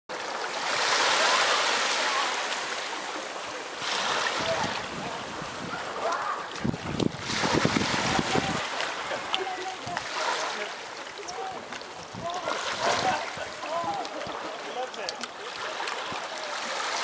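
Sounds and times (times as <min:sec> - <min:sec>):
water splashes: 0:00.1 - 0:17.0
hiss of wind and water: 0:00.2 - 0:17.0.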